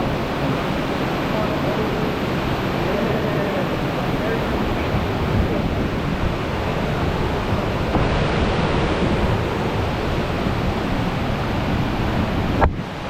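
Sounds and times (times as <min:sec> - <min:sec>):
waterfall rushing: 0:00.0 - 0:13.0
wind rumble on microphone: 0:00.0 - 0:13.0.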